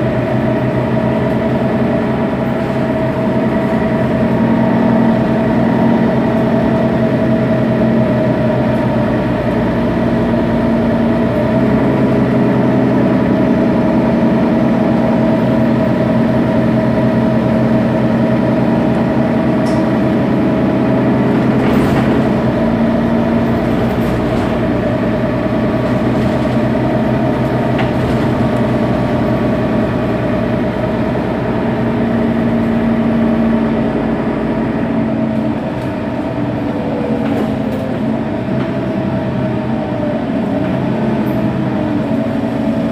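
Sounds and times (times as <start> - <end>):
diesel bus engine idling: 0.0 - 42.9.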